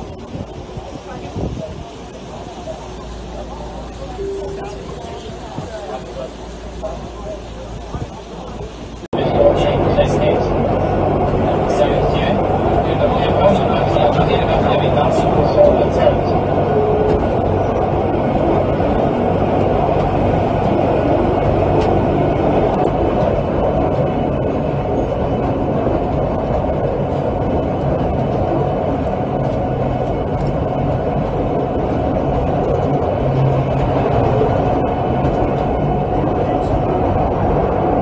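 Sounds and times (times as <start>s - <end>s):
train running on track: 0.0s - 38.0s
low hum: 1.9s - 38.0s.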